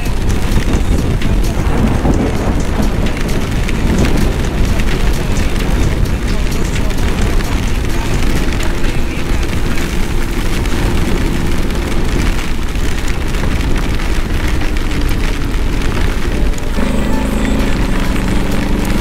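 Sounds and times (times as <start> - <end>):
hard rain pelting camera: 0.0 - 19.0
wind rumble: 0.0 - 19.0.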